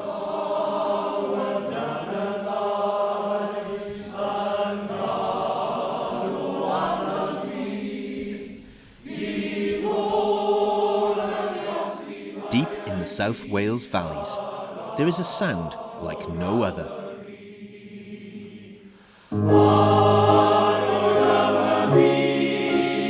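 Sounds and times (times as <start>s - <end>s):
male choir singing held chords: 0.0s - 23.0s.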